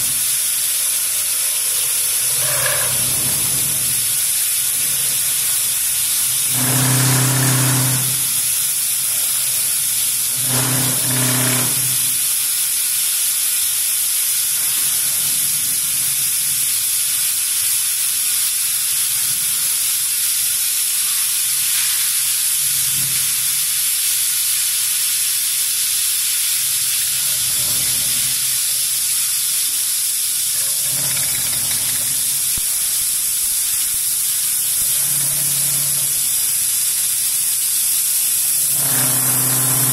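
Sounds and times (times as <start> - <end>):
cutting machine hissing: 0.0 - 12.7, 14.2 - 24.3, 26.4 - 39.9.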